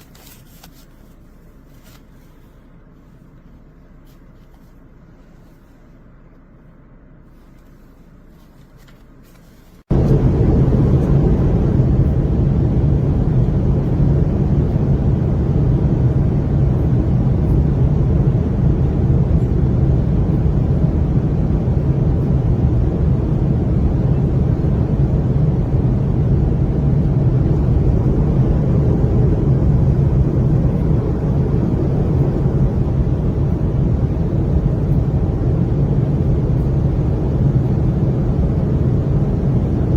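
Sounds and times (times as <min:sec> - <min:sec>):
faint low hum: 0:00.0 - 0:39.9
airliner cabin noise: 0:07.2 - 0:39.9.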